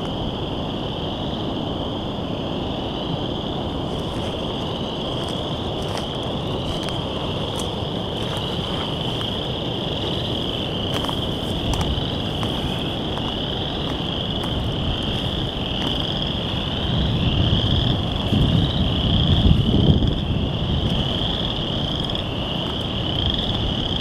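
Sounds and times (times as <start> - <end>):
chorus of frogs calling: 0.0 - 24.0
wind rumble on microphone: 0.0 - 24.0.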